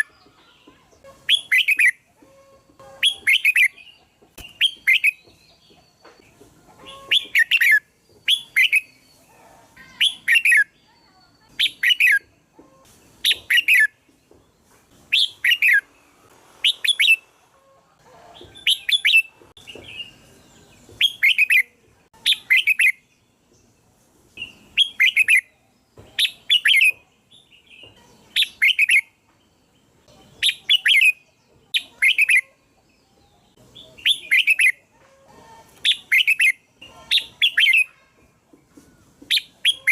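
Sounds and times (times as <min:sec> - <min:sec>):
bird singing: 0:00.0 - 0:17.3, 0:18.4 - 0:35.0, 0:35.7 - 0:39.9.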